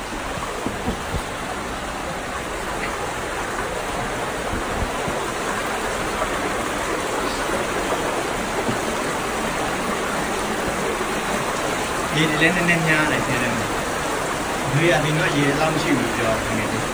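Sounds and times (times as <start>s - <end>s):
water rushing over boulders: 0.0s - 16.9s.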